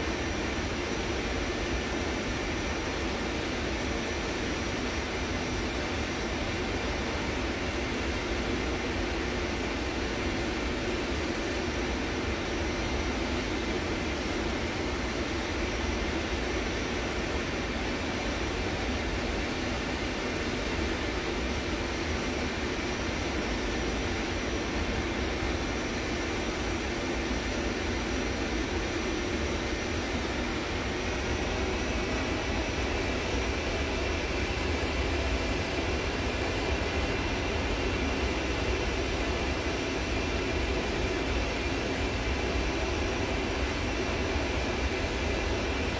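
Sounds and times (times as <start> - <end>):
aeroplane engines rumbling: 0.0 - 45.9.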